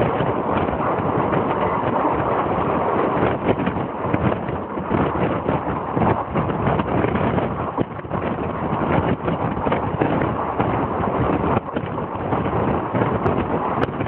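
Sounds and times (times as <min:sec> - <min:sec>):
train running on track: 0:00.0 - 0:14.0
wheels knocking: 0:00.0 - 0:14.0
wind buffeting microphone: 0:00.0 - 0:14.0.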